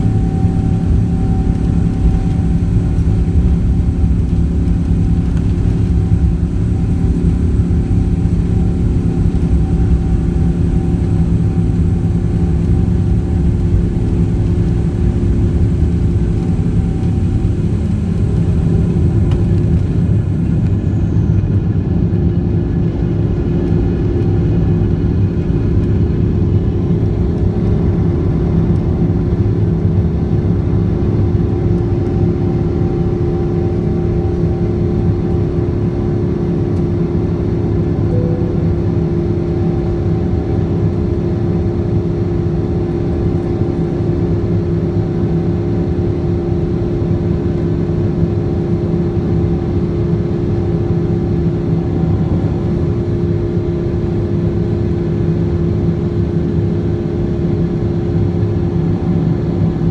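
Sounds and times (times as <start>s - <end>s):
jet engine noise in cabin: 0.0s - 59.9s.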